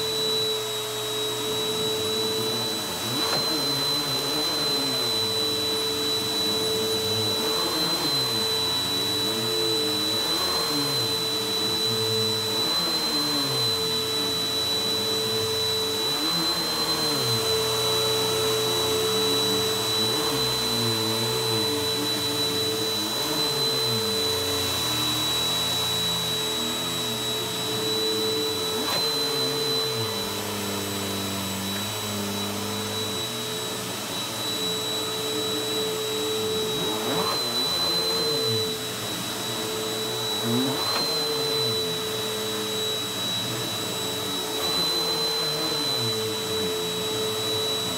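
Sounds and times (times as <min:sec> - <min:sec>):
vacuum cleaner running on rug: 0:00.0 - 0:47.9.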